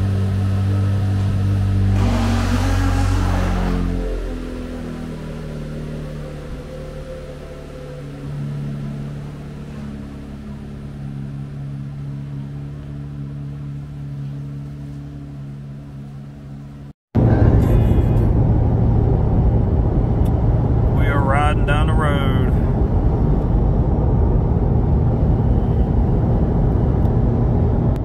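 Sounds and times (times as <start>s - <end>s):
car cruising drone from cabin: 0.0s - 28.0s
car engine idling: 4.1s - 28.0s.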